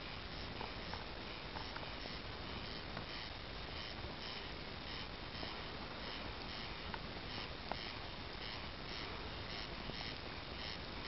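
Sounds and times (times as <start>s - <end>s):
faint high pulsing: 0.0s - 11.0s.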